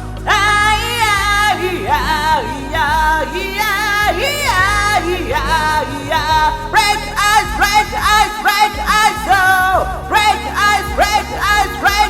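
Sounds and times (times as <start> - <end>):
karaoke backing track: 0.0 - 12.0
person singing: 0.0 - 12.0.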